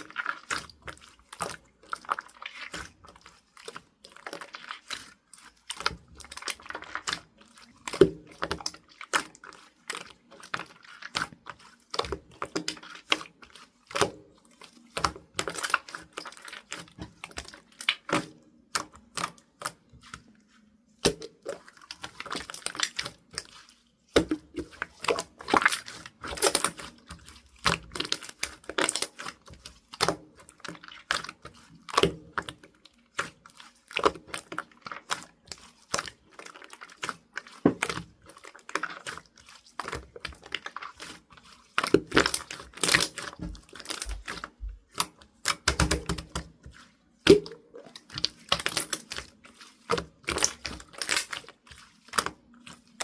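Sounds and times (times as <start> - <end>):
clicking and crinkling handling: 0.0 - 53.0.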